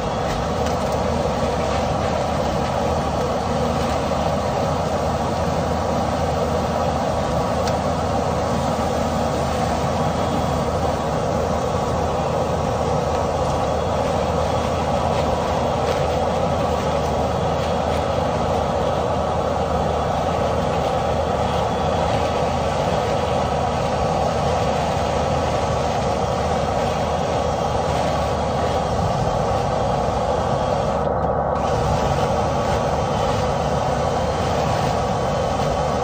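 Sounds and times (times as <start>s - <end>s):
vent cleaning machine rushing air: 0.0s - 36.0s.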